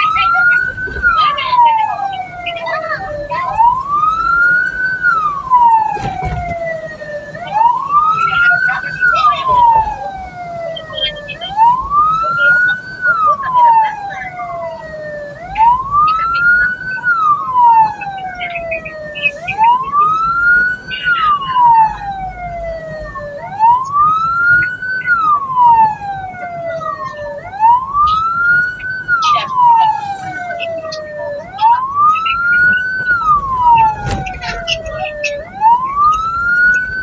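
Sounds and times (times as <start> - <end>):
road and engine rumble: 0.0 - 37.0
vehicle siren wailing: 0.0 - 37.0.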